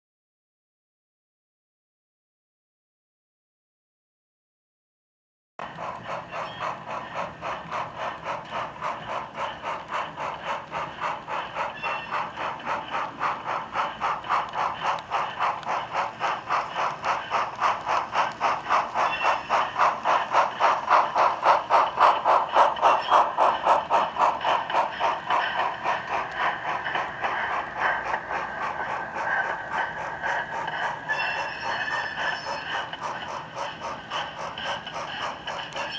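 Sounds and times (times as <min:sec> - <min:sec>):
model steam locomotive chuffing: 0:05.6 - 0:35.9.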